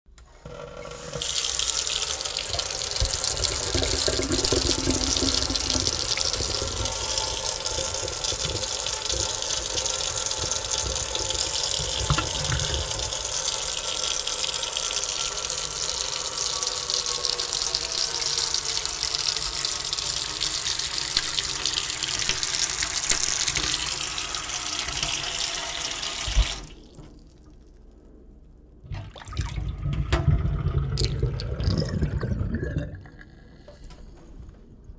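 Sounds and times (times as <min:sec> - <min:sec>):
faucet running: 0:00.6 - 0:27.0, 0:28.9 - 0:33.4.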